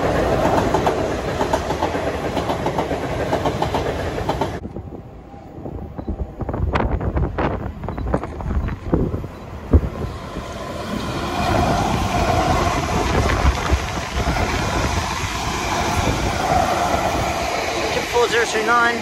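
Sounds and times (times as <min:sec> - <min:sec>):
rush of wheels on rail: 0:00.0 - 0:05.0, 0:06.2 - 0:19.0
train whine: 0:00.0 - 0:19.0.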